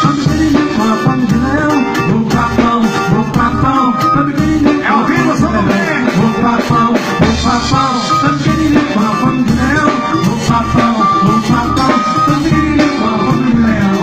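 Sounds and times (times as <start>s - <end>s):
instrumental dance band music: 0.0s - 14.0s.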